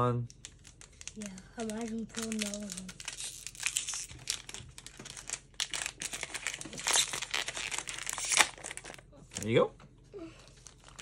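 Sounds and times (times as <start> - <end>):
foil wrapper crinkling: 0.0 - 9.6, 10.4 - 11.0.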